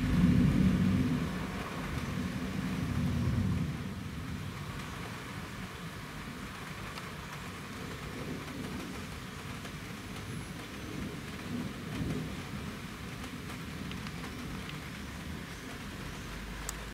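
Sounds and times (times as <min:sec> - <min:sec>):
low rumble of thunder: 0:00.0 - 0:16.7
steady rain: 0:00.0 - 0:16.9.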